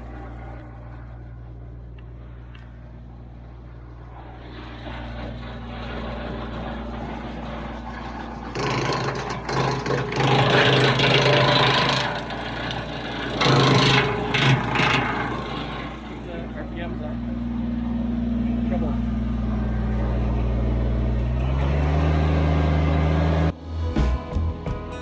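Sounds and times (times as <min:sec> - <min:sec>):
tractor diesel engine running: 0:00.0 - 0:25.0
wood chipper shredding branches: 0:01.9 - 0:24.6.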